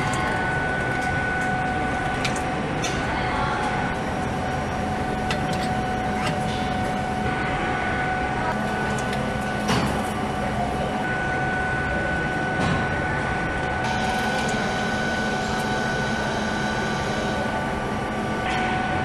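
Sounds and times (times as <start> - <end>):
machinery humming and whining: 0.0 - 19.0.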